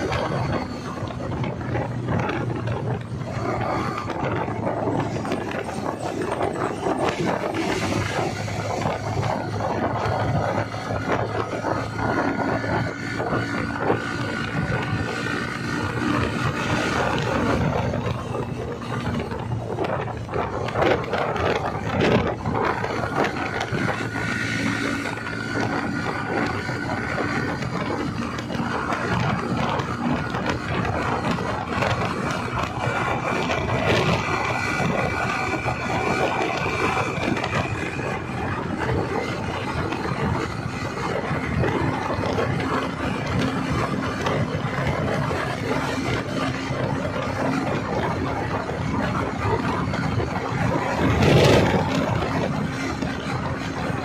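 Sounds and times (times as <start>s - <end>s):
motorcycle running: 0.0s - 54.0s
wind buffeting microphone: 0.0s - 54.0s.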